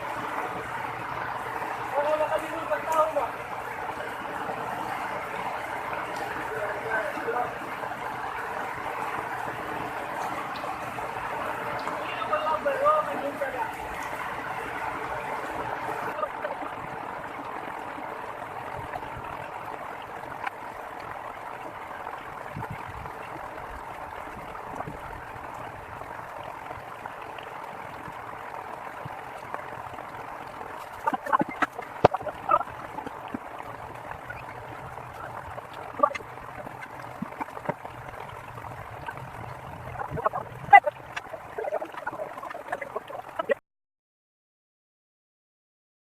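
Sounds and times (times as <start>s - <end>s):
rushing water: 0.0s - 43.6s.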